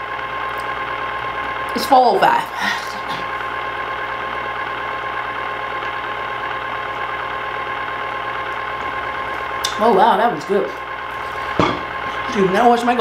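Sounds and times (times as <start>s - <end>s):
electric motor whining hum: 0.0s - 13.0s.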